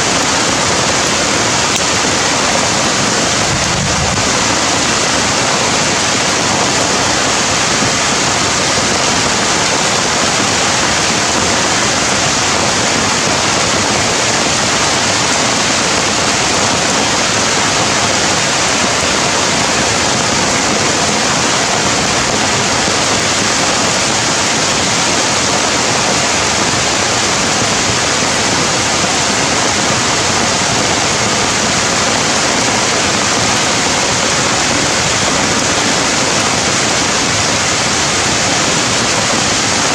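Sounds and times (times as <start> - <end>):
loud steady rushing noise: 0.0 - 39.9.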